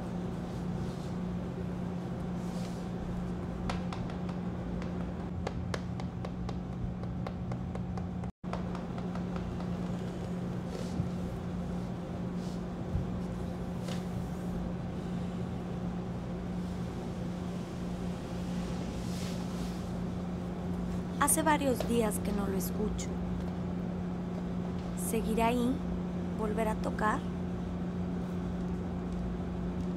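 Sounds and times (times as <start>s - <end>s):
low background hum: 0.0s - 29.9s.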